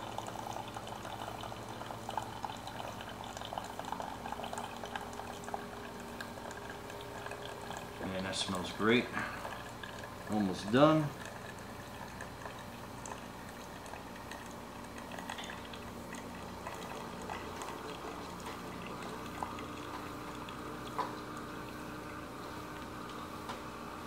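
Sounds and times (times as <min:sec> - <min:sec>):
coffee maker hissing: 0:00.0 - 0:24.0.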